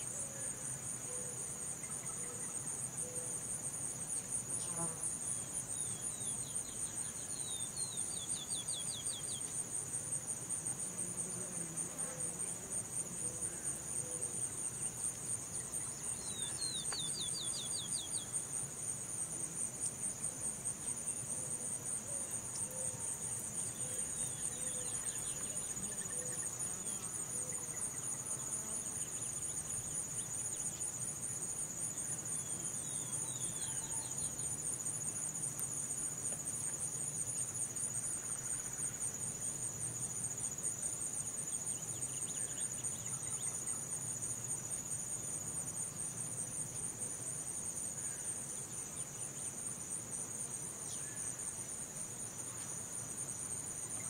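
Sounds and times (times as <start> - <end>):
crickets trilling: 4.6 - 54.0.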